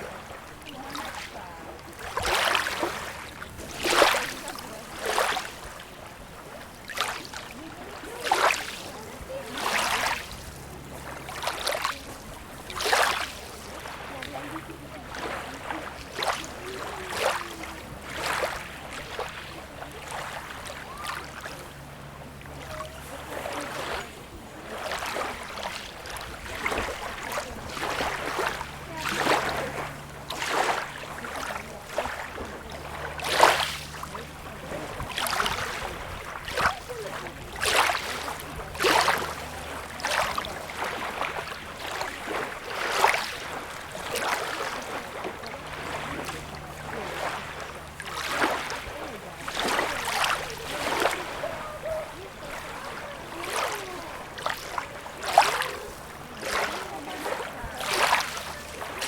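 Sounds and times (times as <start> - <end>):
small waves lapping: 0.0 - 59.0.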